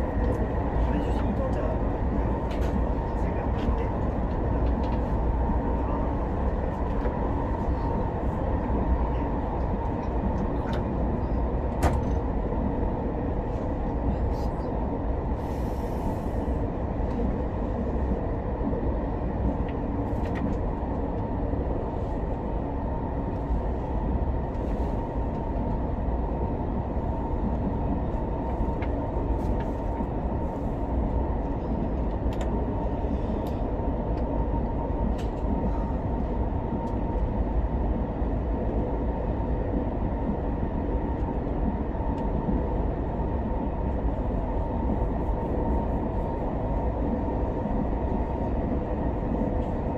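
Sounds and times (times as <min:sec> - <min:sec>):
train cabin rumble: 0:00.0 - 0:49.9.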